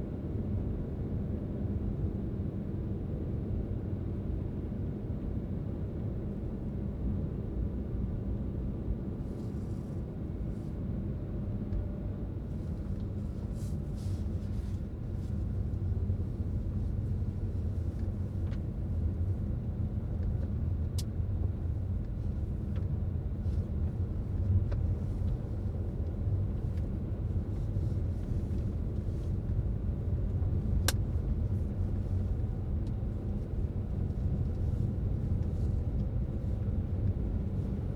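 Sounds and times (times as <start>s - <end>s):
car engine and tyres rumbling: 0.0s - 37.9s.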